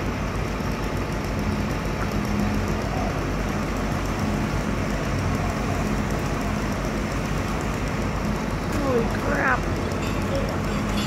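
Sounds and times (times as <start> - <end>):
engine idling: 0.0 - 11.0
rushing background noise: 0.0 - 11.0.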